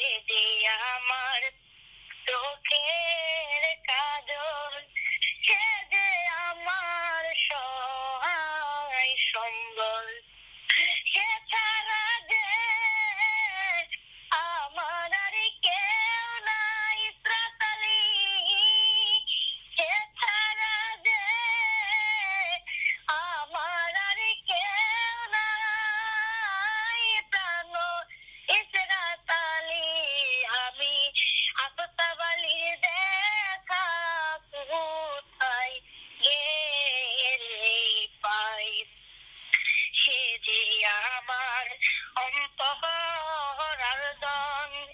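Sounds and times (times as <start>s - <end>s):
electronically altered singing voice: 0.0s - 44.9s.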